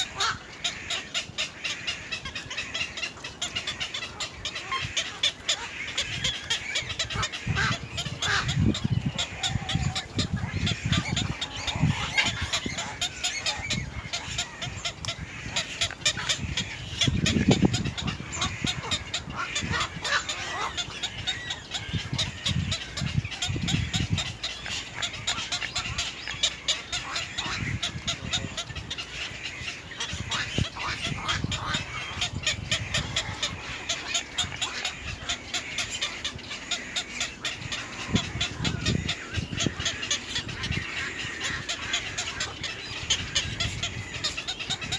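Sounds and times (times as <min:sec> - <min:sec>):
birds chirping and squawking: 0:00.0 - 0:44.9.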